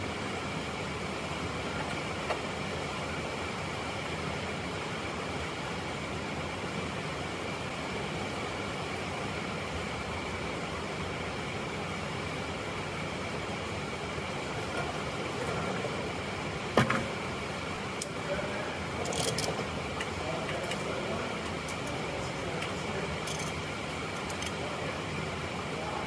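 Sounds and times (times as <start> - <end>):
mechanical hum and hiss: 0.0 - 26.0.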